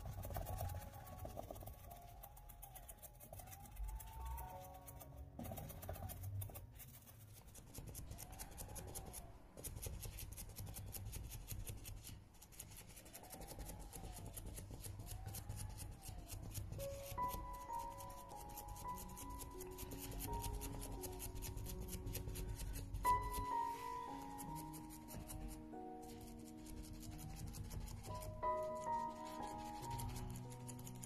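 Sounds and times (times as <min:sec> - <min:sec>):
sponge dabbing paint on canvas: 0:00.0 - 0:31.0.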